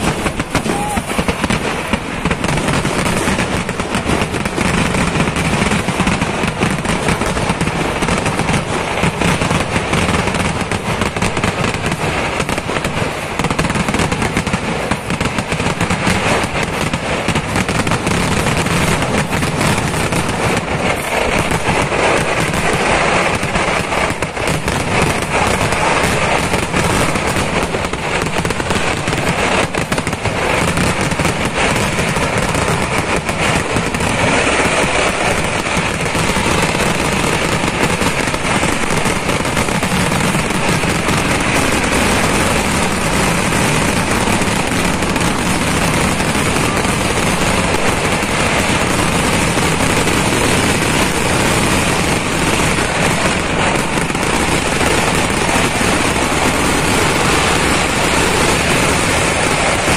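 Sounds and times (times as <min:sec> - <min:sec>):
fireworks barrage of loud bangs: 0:00.0 - 0:59.9.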